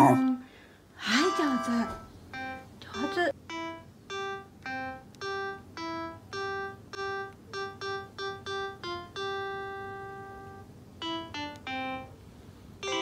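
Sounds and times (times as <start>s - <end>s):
simple keyboard melody: 0.0s - 0.5s, 1.1s - 13.0s.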